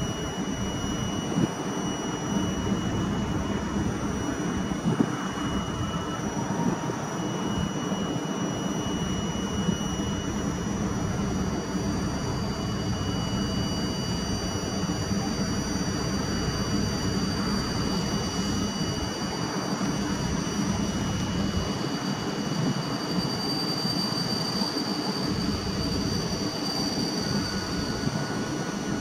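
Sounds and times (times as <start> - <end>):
high whining tones: 0.0 - 29.0
train rail and running noise: 0.0 - 29.0.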